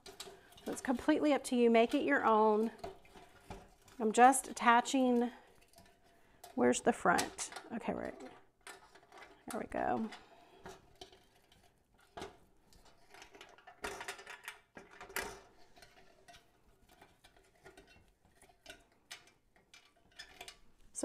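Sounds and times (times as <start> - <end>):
clicks and rustling from handling: 0.0 - 21.0.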